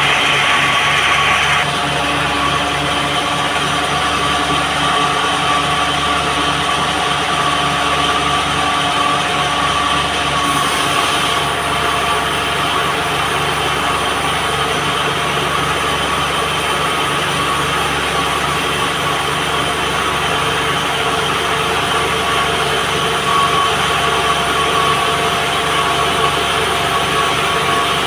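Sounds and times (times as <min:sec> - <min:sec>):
band sawmill running: 0:00.0 - 0:28.0.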